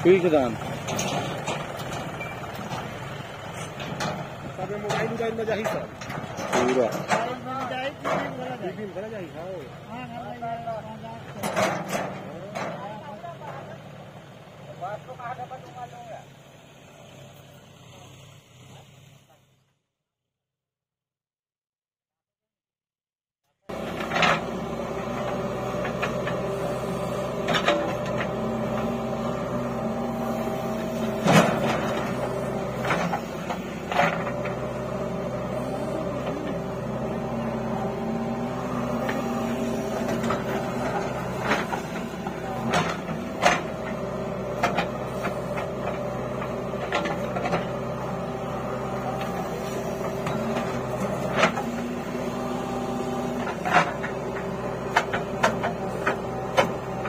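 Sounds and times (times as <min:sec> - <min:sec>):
diesel engine running under load: 0:00.0 - 0:19.6, 0:23.6 - 0:57.0.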